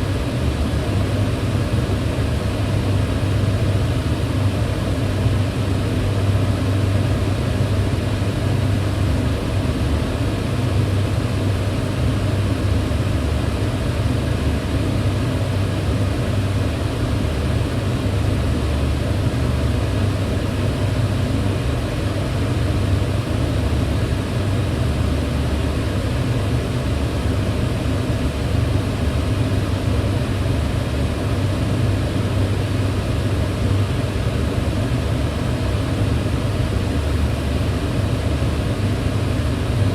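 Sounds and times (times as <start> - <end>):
range hood fan running: 0.0 - 39.9.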